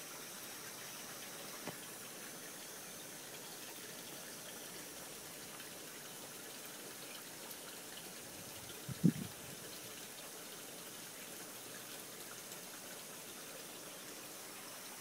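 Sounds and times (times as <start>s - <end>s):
aquarium running water: 0.0s - 15.0s.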